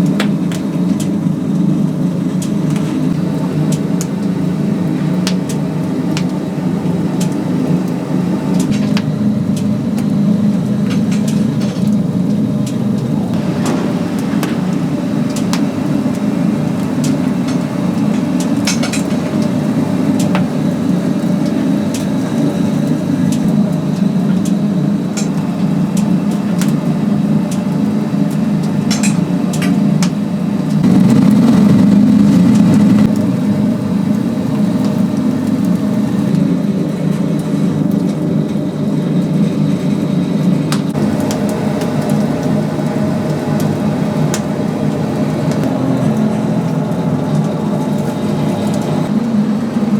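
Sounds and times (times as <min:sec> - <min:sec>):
crackles and clicks: 0:00.0 - 0:49.4
low rumble of fire and machinery: 0:00.0 - 0:49.9.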